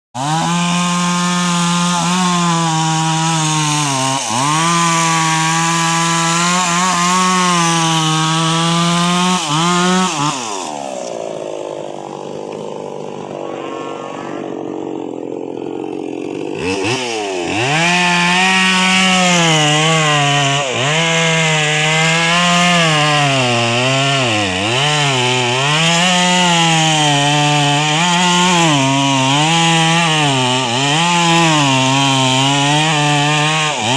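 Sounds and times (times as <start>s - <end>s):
chainsaw cutting wood: 0.2s - 13.7s, 14.4s - 33.9s.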